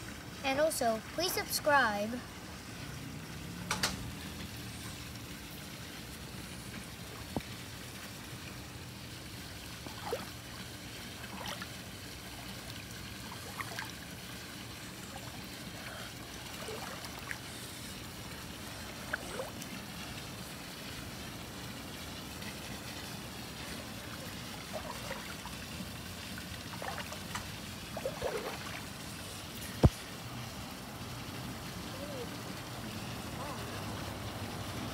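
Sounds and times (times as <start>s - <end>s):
pool water lapping and trickling: 0.0s - 34.9s
steady low hum: 0.0s - 34.9s
small water plinks and splashes: 2.6s - 34.9s.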